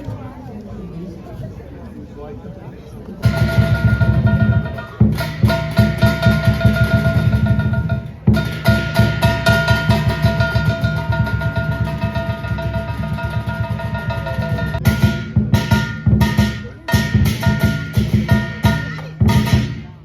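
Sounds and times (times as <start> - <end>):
fast drumming: 3.2 - 20.0.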